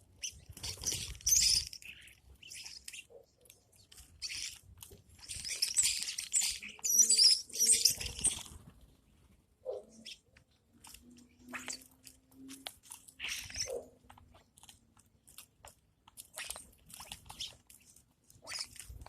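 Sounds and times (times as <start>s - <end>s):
crisp crunching and clicking: 0.1s - 6.8s, 10.3s - 19.0s.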